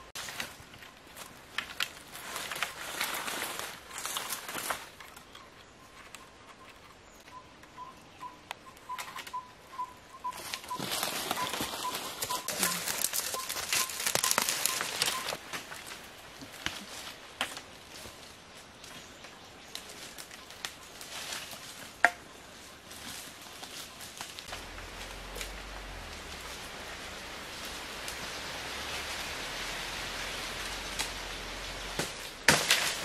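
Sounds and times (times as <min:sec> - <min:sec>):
dry leaves rustling and crackling: 0:00.0 - 0:05.3, 0:10.2 - 0:33.0.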